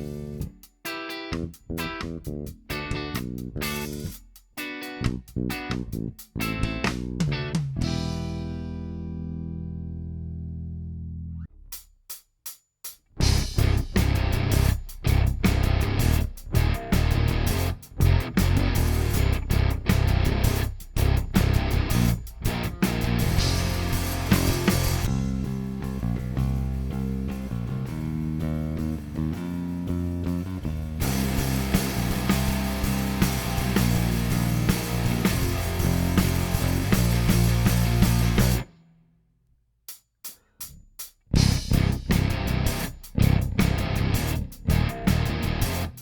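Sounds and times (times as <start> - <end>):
electric bass playing: 0.0 - 0.6, 1.3 - 4.1, 4.9 - 11.6, 13.2 - 38.7, 41.4 - 46.0.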